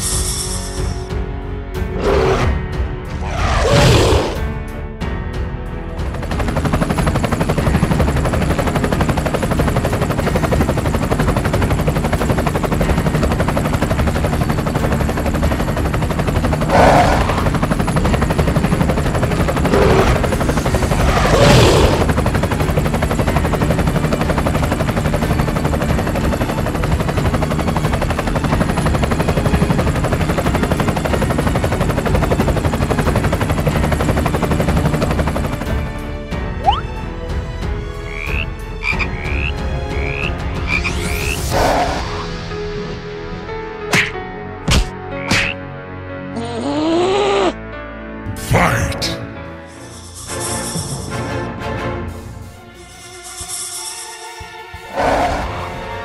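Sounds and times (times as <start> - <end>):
helicopter rotor and engine: 0.0 - 46.4, 48.5 - 56.0.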